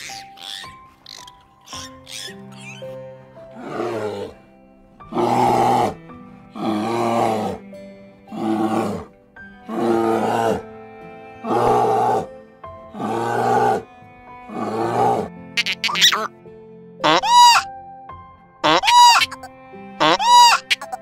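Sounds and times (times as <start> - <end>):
young bear rough cries: 0.0 - 7.7, 8.3 - 10.8, 11.4 - 12.3, 12.9 - 16.3, 17.0 - 17.7, 18.6 - 21.0
soft background music: 0.0 - 21.0.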